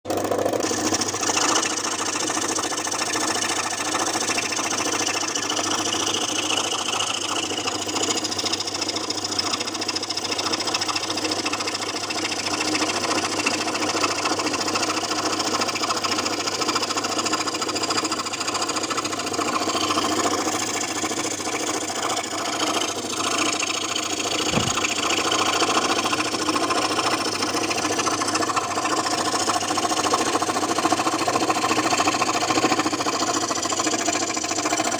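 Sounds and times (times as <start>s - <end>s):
scroll saw running: 0.1s - 34.9s.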